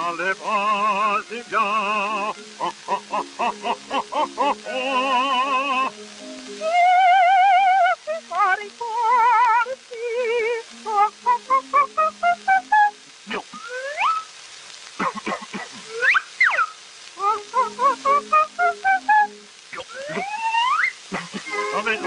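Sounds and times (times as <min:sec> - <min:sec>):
operatic singing: 0:00.0 - 0:13.9, 0:17.2 - 0:22.0.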